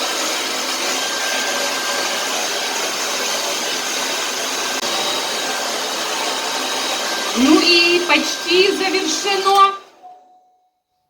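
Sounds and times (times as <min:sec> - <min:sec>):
hair dryer blowing: 0:00.0 - 0:10.0.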